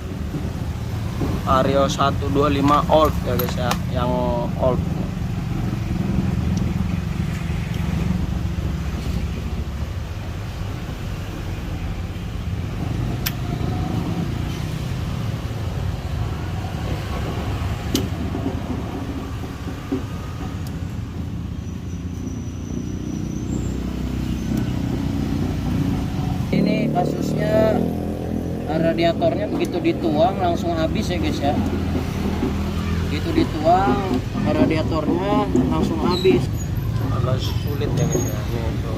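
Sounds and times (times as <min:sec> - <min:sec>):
motor vehicles rumbling: 0:00.0 - 0:38.9.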